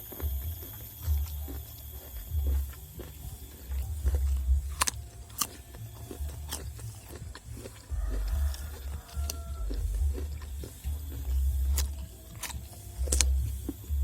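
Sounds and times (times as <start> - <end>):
person chewing and crunching: 0.0 - 14.0.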